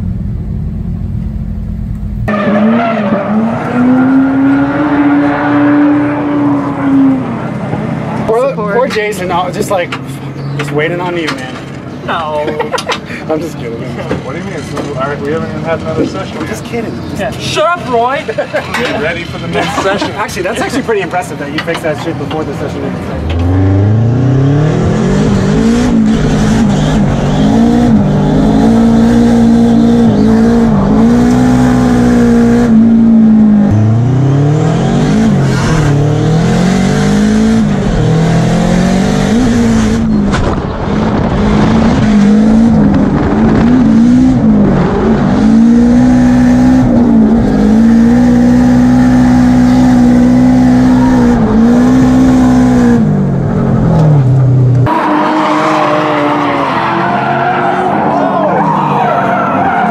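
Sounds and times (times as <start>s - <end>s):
car engine revving: 0.0s - 12.0s, 22.6s - 59.9s.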